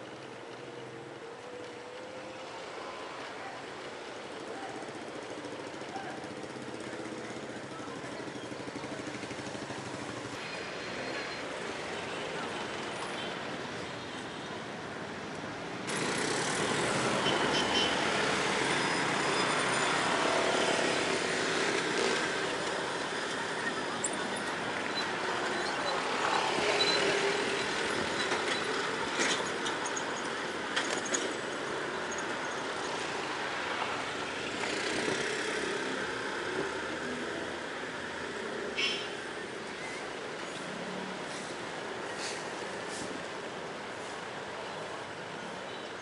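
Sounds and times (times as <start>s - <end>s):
street traffic: 0.0s - 46.0s.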